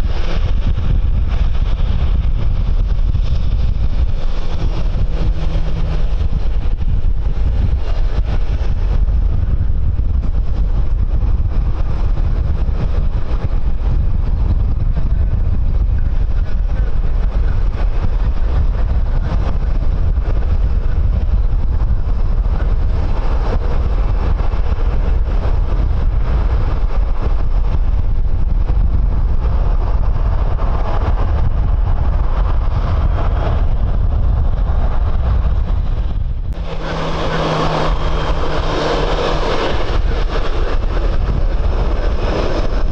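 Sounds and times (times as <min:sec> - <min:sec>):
distant aircraft engine hiss: 0:00.0 - 0:28.4, 0:29.0 - 0:42.9
jet engine hum: 0:00.0 - 0:42.9
wind buffeting microphone: 0:00.0 - 0:42.9.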